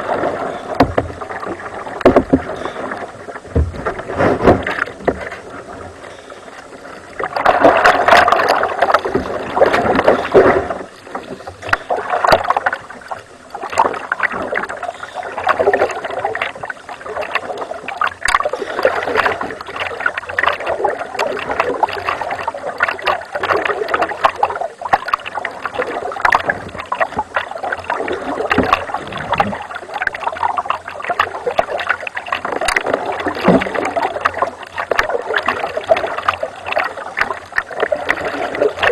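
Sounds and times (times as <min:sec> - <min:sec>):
water splashing around a kayak: 0:00.0 - 0:38.9.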